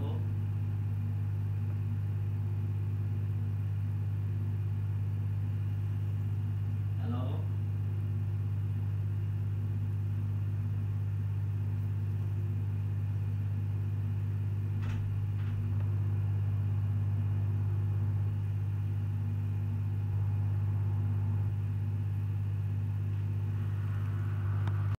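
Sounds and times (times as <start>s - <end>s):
machine low hum: 0.0s - 25.0s.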